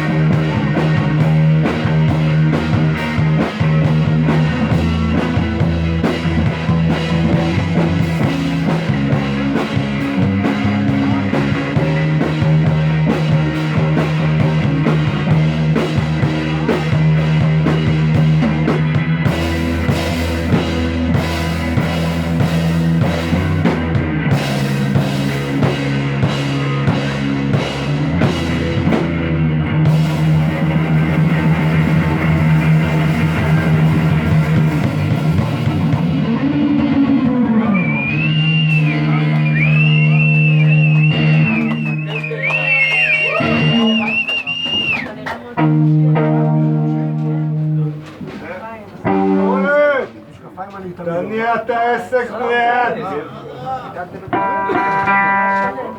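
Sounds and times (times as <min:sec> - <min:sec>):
rock band playing live: 0:00.0 - 0:50.3, 0:54.2 - 0:55.9.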